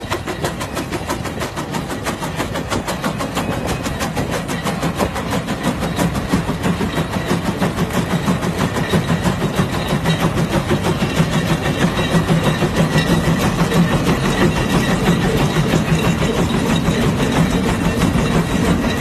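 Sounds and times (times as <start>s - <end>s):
tractor engine chugging: 0.0s - 19.0s.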